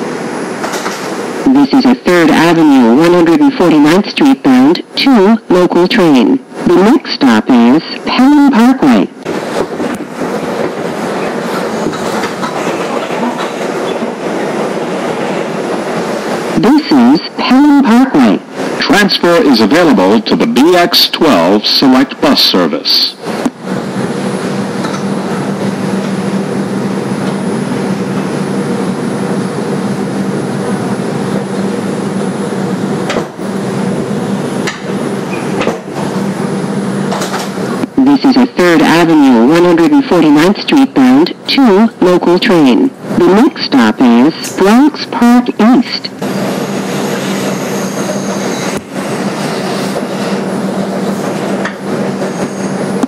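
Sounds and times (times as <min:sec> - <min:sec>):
air conditioning hum: 0:00.0 - 0:53.0
subway wheels rumbling on rail: 0:00.0 - 0:53.0.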